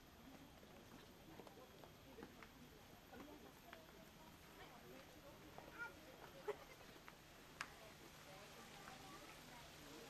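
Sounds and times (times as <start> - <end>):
faint distant voices: 0.0 - 10.0.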